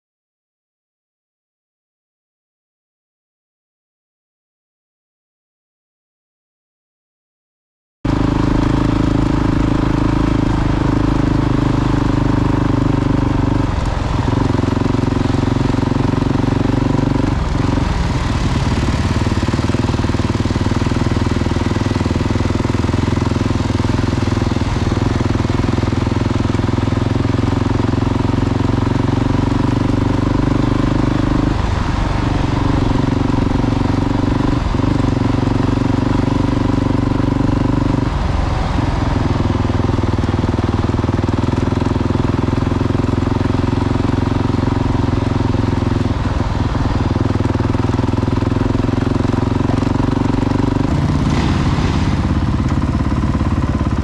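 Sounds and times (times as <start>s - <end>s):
motorcycle engine running: 8.1s - 54.0s.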